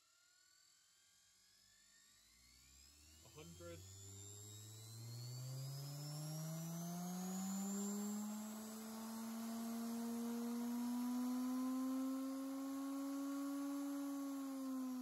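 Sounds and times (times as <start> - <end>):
electric motor whine rising: 1.6 - 15.0.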